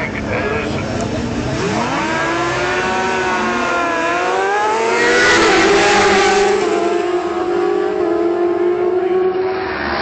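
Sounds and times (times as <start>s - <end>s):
motorcycle engine at high revs: 0.3s - 10.0s.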